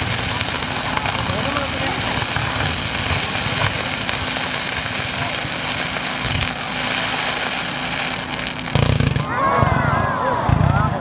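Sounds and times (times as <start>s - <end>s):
dull firework boom: 0.0s - 10.9s
fireworks crackling: 0.0s - 11.0s.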